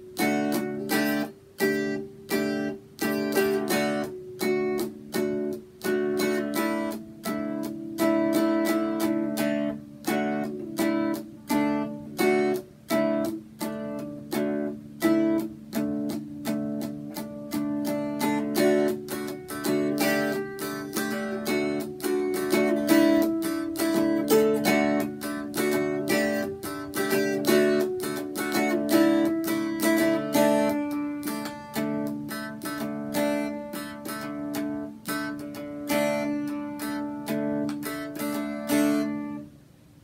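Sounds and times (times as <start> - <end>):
dulcimer strummed: 0.0 - 39.6.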